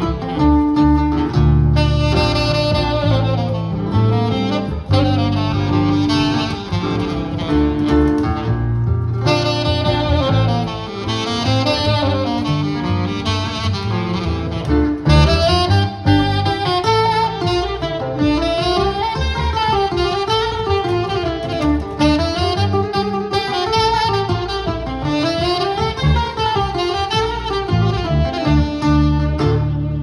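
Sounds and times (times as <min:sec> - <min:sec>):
acoustic guitar: 0:00.0 - 0:30.0
saxophone solo: 0:00.0 - 0:30.0
upright double bass: 0:00.0 - 0:30.0.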